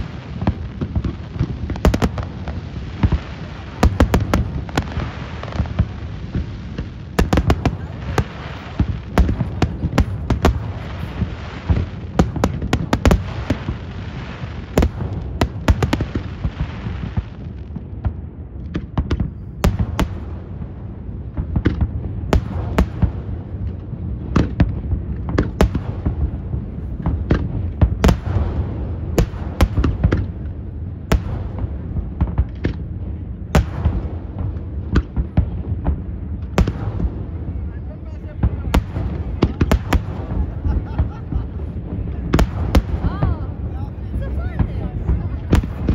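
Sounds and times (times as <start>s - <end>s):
continuous low rumble: 0.0s - 45.9s.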